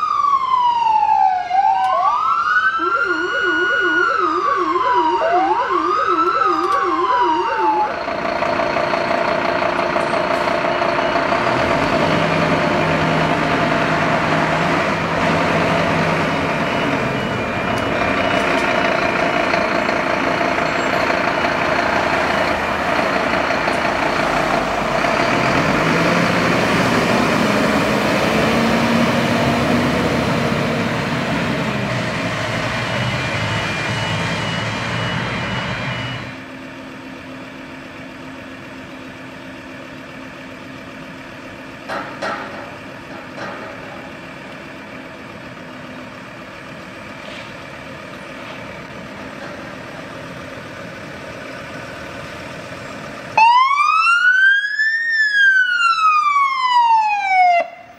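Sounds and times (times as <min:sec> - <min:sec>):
fire truck siren wailing and yelping: 0:00.0 - 0:37.9, 0:41.9 - 0:57.9
road noise: 0:00.0 - 0:57.9
diesel engine running: 0:03.1 - 0:54.4.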